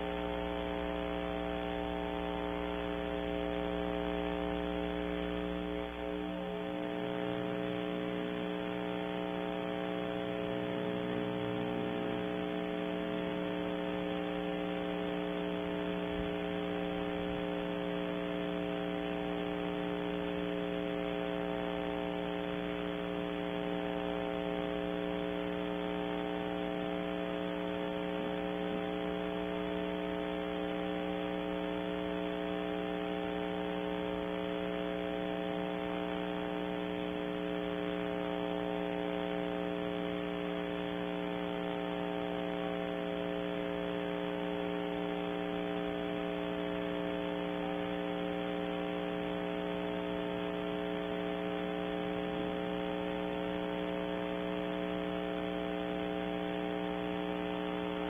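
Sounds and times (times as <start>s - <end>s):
electrical hum with hiss: 0.0s - 58.0s.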